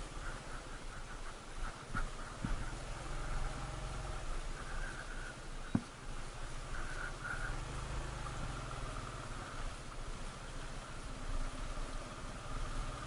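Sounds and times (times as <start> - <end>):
motorcycle engine running: 2.0 - 13.0.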